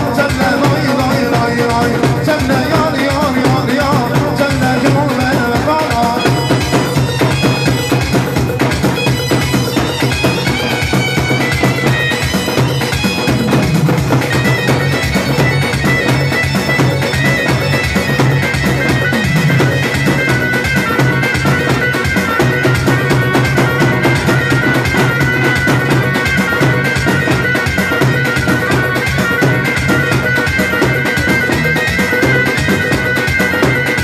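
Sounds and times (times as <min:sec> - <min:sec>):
band music: 0:00.0 - 0:34.0
drum rhythm: 0:00.0 - 0:34.0
keyboard reedy melody: 0:00.0 - 0:34.0.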